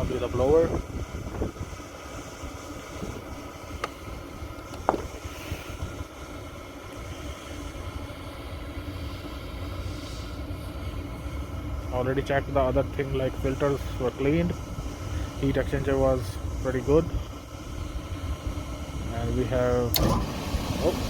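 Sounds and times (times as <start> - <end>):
rooftop unit low rumble: 0.0 - 21.0.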